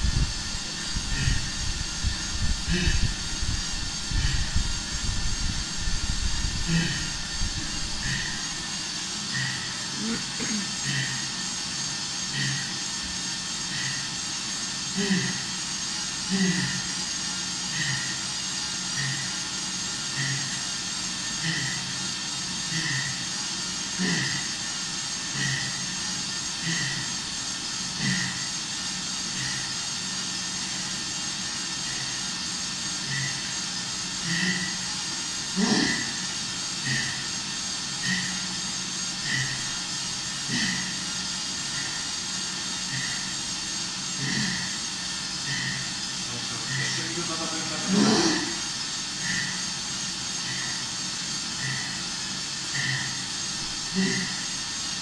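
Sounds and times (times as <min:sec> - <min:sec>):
cycling trainer roller whirring: 0:00.0 - 0:55.0.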